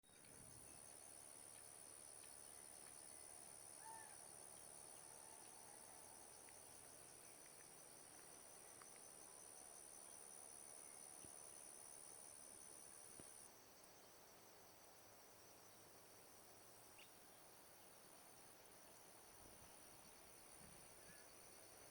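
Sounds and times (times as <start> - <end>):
high steady insect trill: 0.1 - 21.9
short insect call: 0.1 - 21.9.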